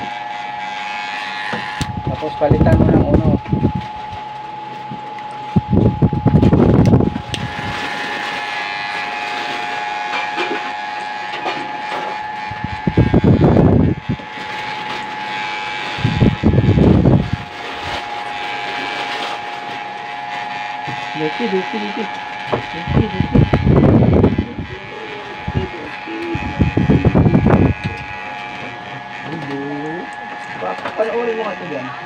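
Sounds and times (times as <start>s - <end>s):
electric hair clipper humming: 0.0s - 32.0s.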